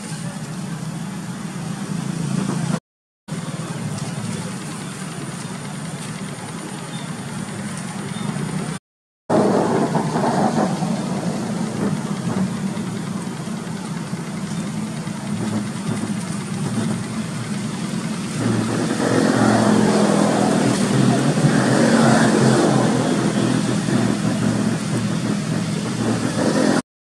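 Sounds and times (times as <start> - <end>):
vehicle engine humming: 0.0 - 26.8.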